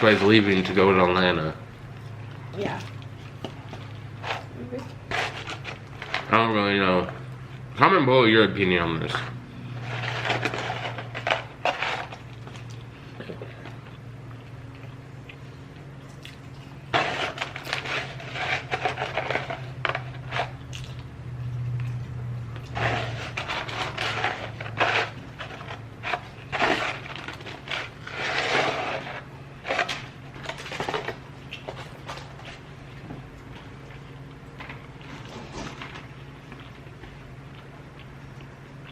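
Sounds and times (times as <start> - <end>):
food handling clicks and crackles: 0.0 - 7.7, 8.7 - 38.9
steady low hum: 0.0 - 38.9
chewing food: 1.9 - 6.3, 9.2 - 38.9.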